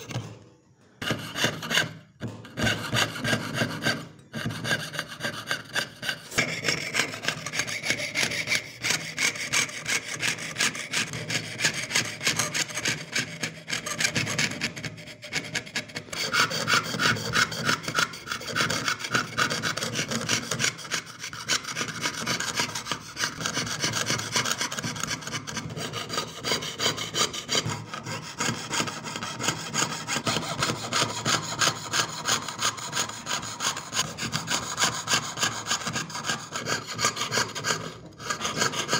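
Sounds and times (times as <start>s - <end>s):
saw cutting sheet metal: 1.0s - 38.9s.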